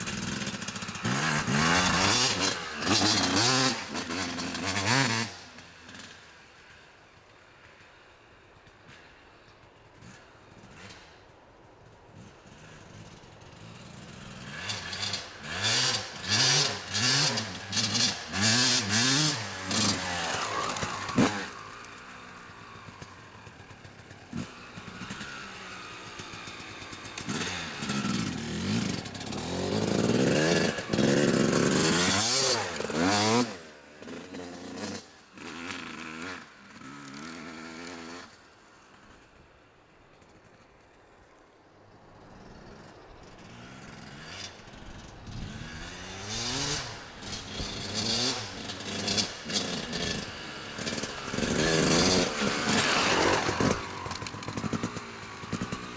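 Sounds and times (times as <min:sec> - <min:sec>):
motorcycle engine revving: 0:00.0 - 0:06.8, 0:12.2 - 0:39.5, 0:42.2 - 0:55.9.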